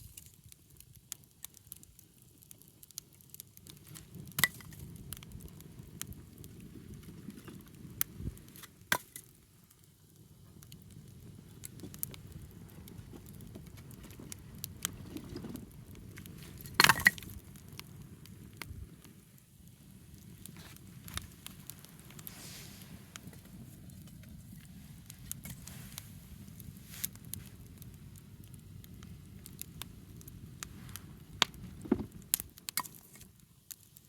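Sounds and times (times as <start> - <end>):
low fire noise: 0.0 - 34.0
wood fire crackling and popping: 0.0 - 34.0.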